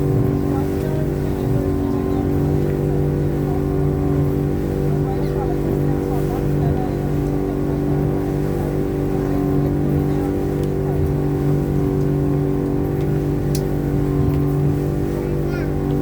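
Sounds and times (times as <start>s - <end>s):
outboard motor droning: 0.0s - 16.0s.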